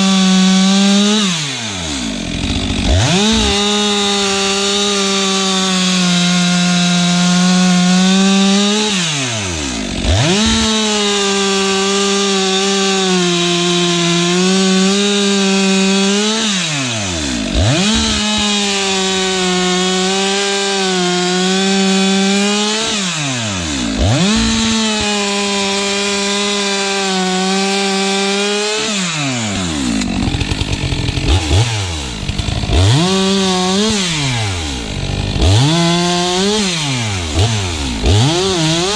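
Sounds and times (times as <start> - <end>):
chainsaw cutting logs: 0.0 - 38.9
chainsaw idling and revving: 0.0 - 38.9.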